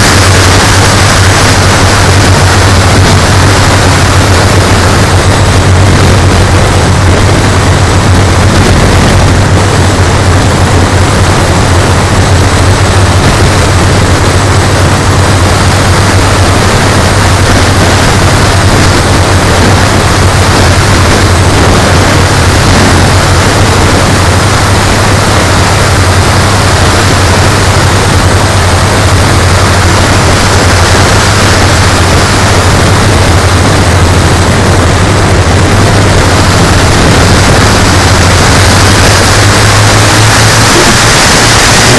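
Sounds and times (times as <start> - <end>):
model plane engines droning: 0.0 - 41.9.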